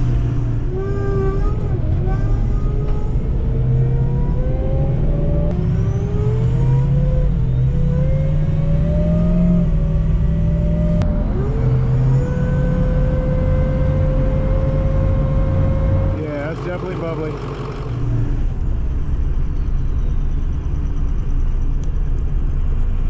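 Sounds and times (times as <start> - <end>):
diesel truck accelerating: 0.0 - 23.0.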